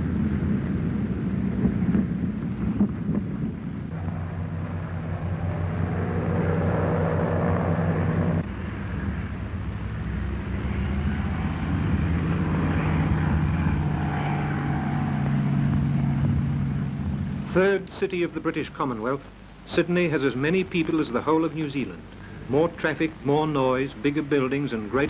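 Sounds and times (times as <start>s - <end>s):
humming engine drone: 0.0s - 25.0s.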